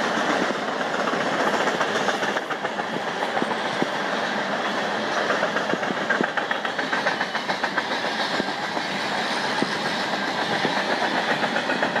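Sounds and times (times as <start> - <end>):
train cars rolling: 0.0 - 12.0
wheels clicking over rail joints: 0.0 - 12.0.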